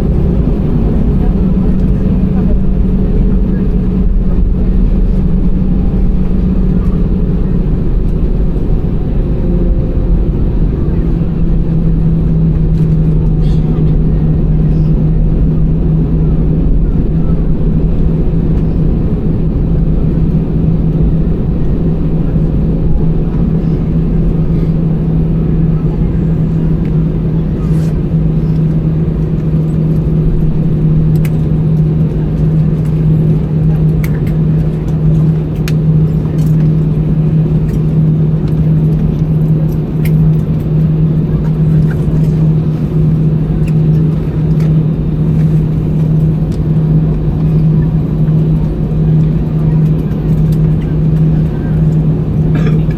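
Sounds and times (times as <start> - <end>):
aircraft cabin rumble and hum: 0.0 - 52.9.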